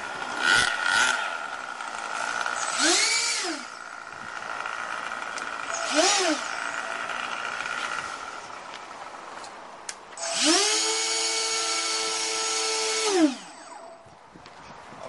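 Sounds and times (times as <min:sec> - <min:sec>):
electric ducted fans whining: 0:00.0 - 0:15.0.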